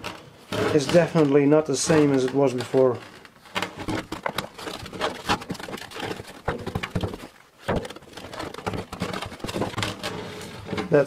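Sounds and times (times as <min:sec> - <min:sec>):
tyre rubbing and creaking on rim: 0:00.0 - 0:11.0.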